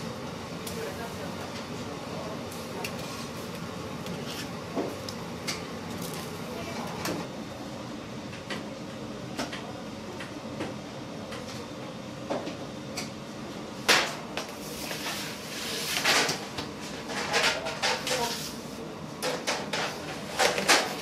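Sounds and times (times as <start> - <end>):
kitchen hum: 0.0 - 21.0.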